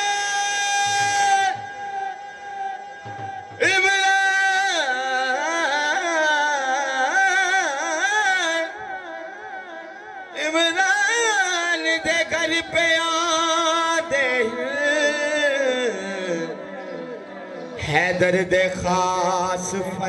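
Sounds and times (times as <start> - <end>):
man singing through a pa: 0.0 - 20.0.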